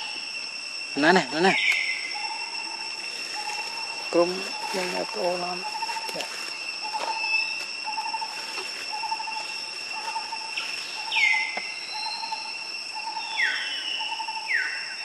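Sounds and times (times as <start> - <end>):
high-pitched insect drone: 0.0 - 15.0
bird hooting: 1.5 - 14.9.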